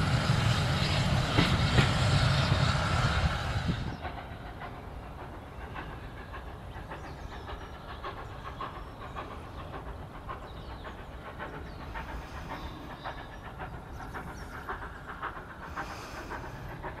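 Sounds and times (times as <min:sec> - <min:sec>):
steam hiss: 0:00.0 - 0:17.0
steam locomotive exhaust beats: 0:00.0 - 0:17.0.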